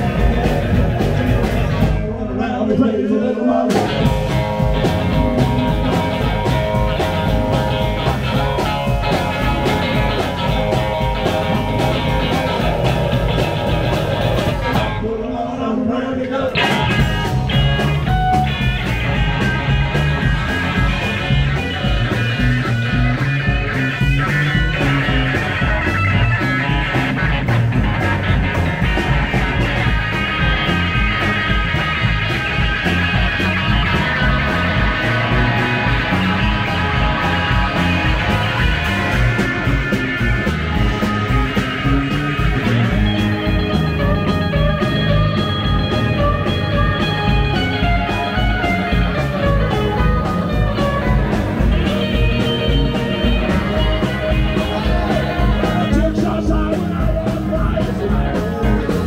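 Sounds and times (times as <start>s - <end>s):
steady drum beat: 0.0s - 2.4s, 3.7s - 15.0s, 16.6s - 59.0s
live rock band playing: 0.0s - 15.4s, 16.3s - 59.0s
electric guitar: 0.0s - 59.0s.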